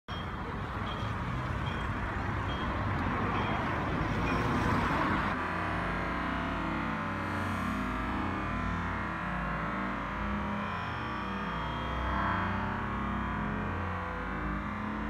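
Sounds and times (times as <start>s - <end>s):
street noise: 0.1s - 15.0s.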